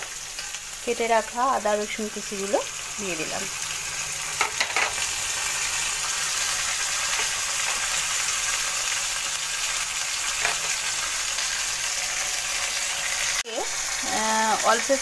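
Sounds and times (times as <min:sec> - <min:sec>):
onion sizzling in hot oil: 0:00.0 - 0:15.0.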